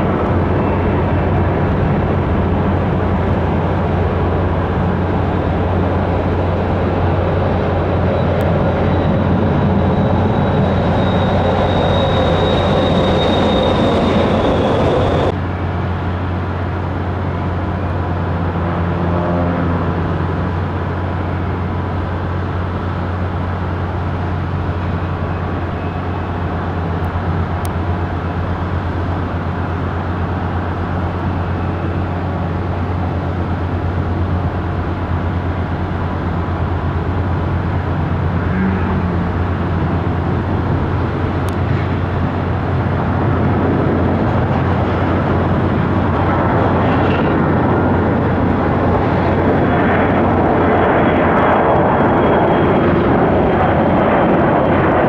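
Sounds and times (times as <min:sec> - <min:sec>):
jet engine turbine whine: 0:00.0 - 0:55.0.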